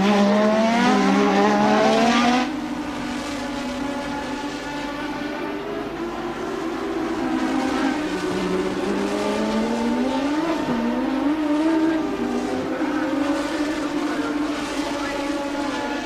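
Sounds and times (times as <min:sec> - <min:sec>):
other race car engines: 0:00.0 - 0:16.0
race car engine revving: 0:00.0 - 0:16.0.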